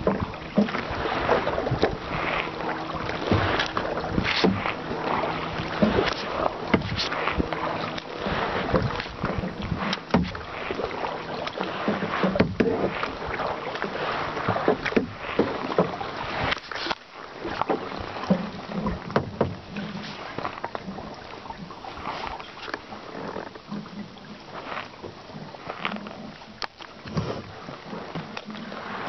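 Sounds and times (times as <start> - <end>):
paddles splashing water: 0.0 - 29.0.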